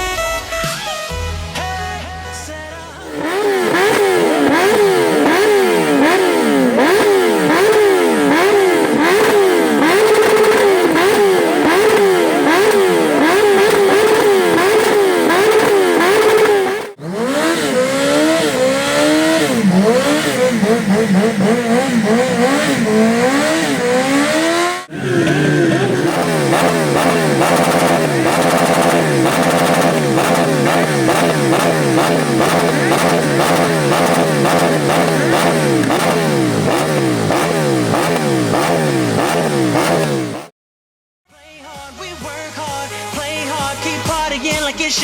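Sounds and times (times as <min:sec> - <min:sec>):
motorcycle engine revving: 0:03.0 - 0:40.5.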